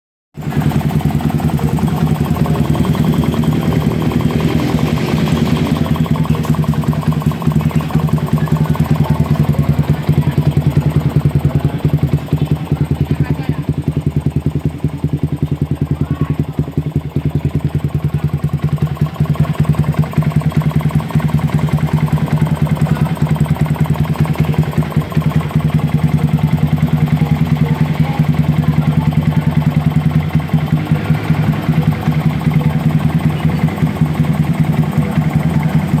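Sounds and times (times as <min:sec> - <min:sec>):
motorcycle engine idling: 0:00.4 - 0:36.0.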